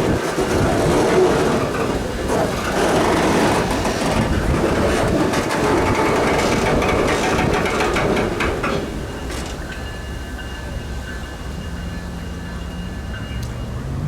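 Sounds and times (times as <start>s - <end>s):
freight train rumbling on rails: 0.0s - 14.0s
train wheels clicking: 0.0s - 14.0s.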